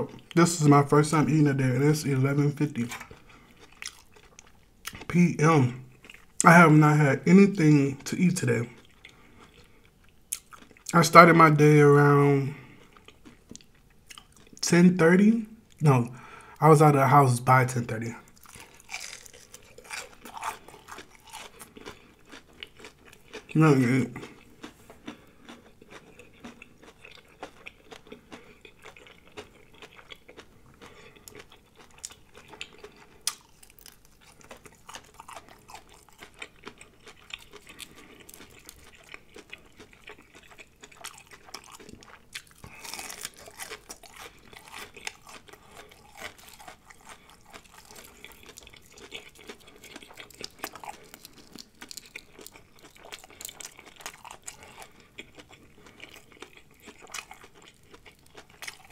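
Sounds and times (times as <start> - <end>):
chewing crispy fried shrimp: 0.0 - 17.0, 17.9 - 58.9.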